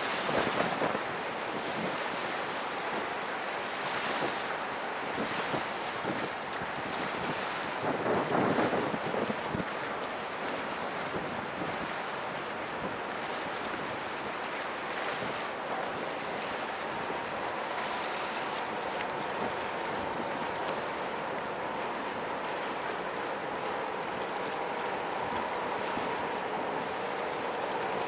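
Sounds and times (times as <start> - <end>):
rushing water: 0.0 - 28.0
wind: 0.0 - 28.0.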